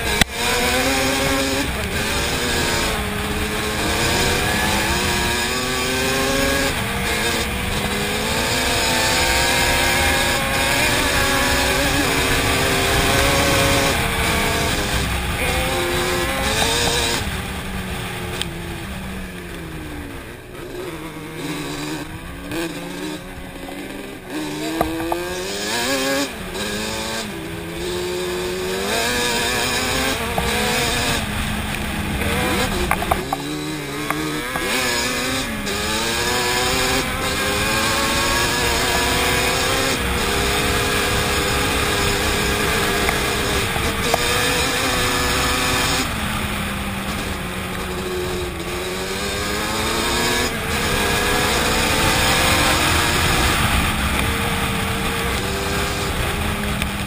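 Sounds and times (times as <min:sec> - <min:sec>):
two-stroke engine revving: 0:00.0 - 0:57.0
wind: 0:00.0 - 0:57.0.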